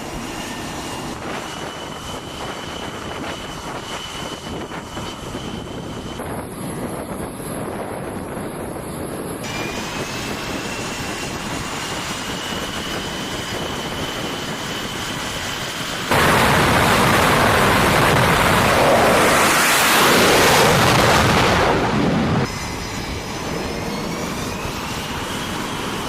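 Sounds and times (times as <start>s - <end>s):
full jet engine roar: 0.0s - 26.0s
jet engine whine: 0.0s - 26.0s.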